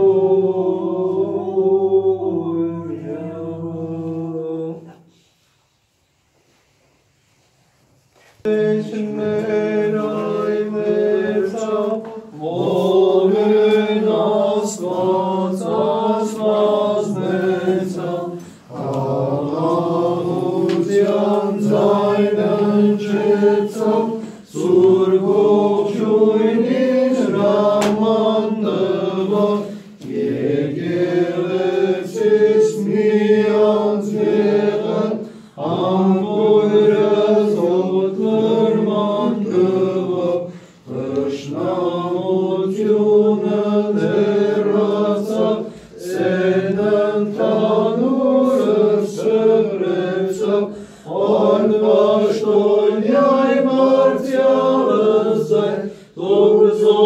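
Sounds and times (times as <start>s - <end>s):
voices chanting a hymn: 0.0s - 5.8s, 8.2s - 57.0s.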